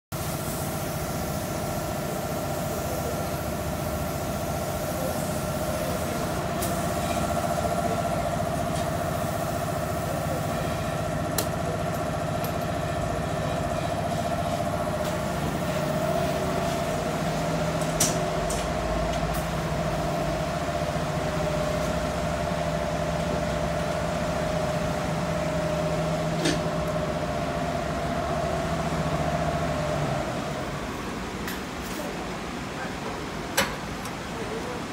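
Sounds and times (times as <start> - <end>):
engine idling: 0.2 - 31.0.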